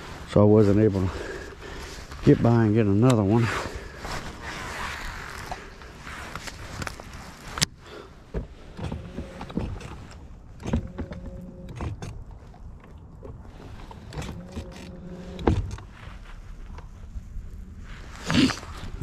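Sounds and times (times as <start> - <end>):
low hum: 3.6 - 19.0.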